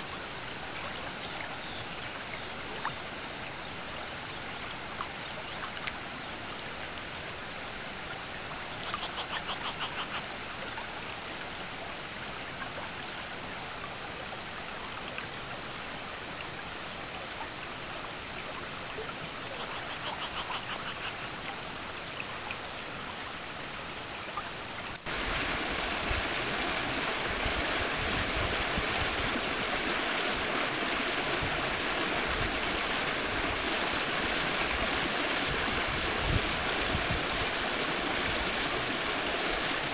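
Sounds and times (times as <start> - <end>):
rush of falling water: 0.0 - 39.9
stream running: 0.0 - 39.9.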